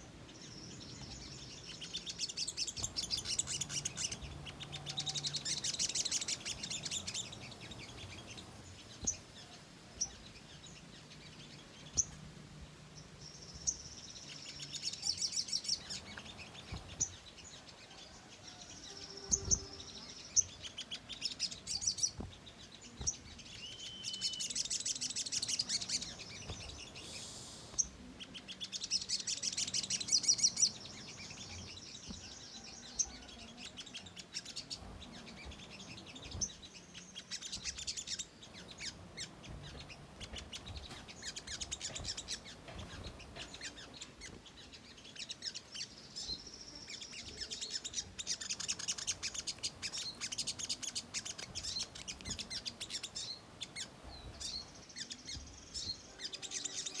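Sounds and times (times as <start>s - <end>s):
bird singing chattering trills: 0.0s - 57.0s.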